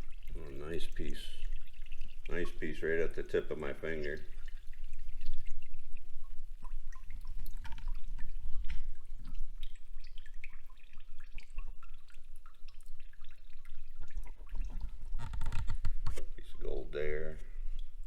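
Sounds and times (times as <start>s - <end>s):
water dripping and trickling: 0.0s - 18.0s.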